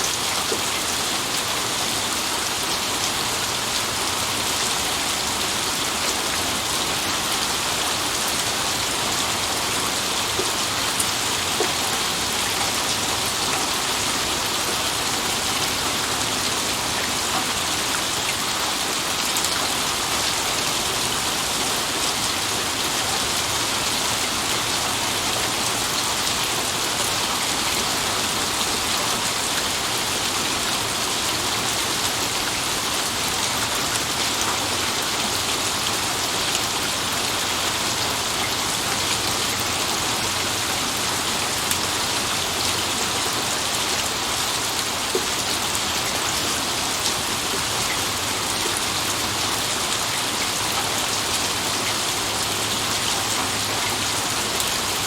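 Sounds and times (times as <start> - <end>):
steady rain hiss: 0.0 - 55.0
raindrops ticking on a surface: 6.1 - 55.0.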